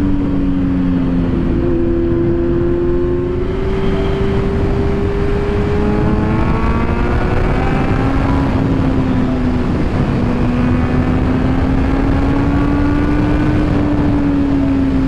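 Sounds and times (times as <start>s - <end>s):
motorcycle engine accelerating: 0.0s - 15.0s
wind rumble on microphone: 0.0s - 15.0s.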